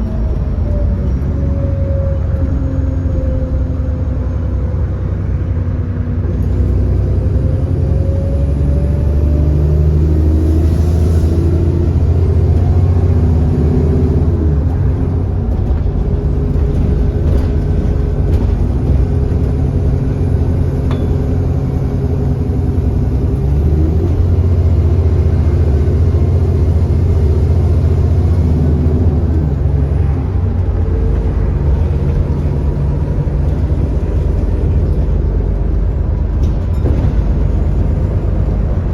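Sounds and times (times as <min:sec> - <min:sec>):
bus diesel engine under load: 0:00.0 - 0:38.9.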